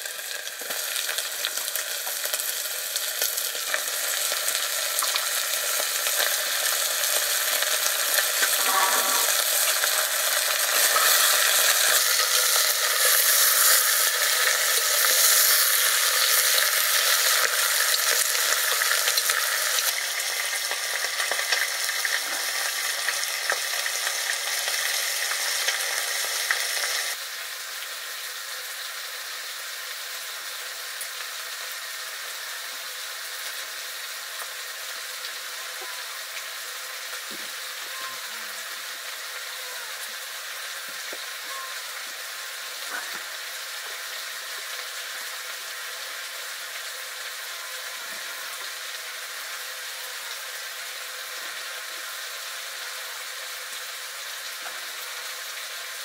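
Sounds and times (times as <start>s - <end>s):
curry sizzling in a pan: 0.0s - 56.0s.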